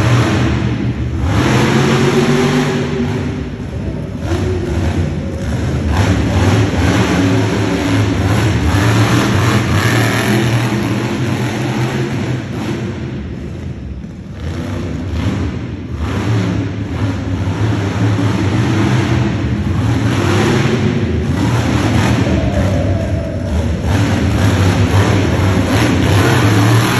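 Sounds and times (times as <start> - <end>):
loud truck engine revving: 0.0 - 26.9.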